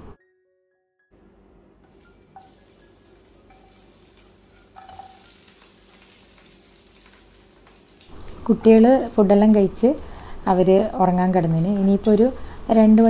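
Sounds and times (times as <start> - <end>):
food sizzling in pot: 1.8 - 13.0.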